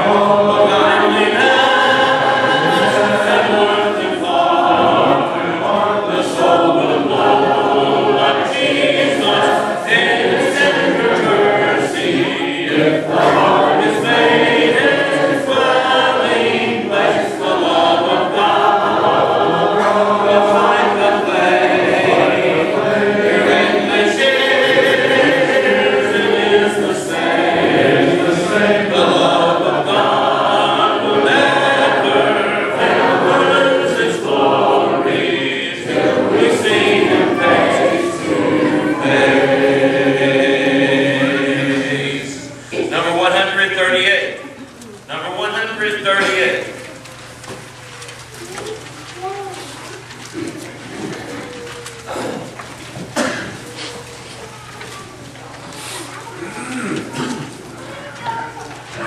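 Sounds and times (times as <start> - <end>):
congregation singing a hymn: 0.0 - 59.0.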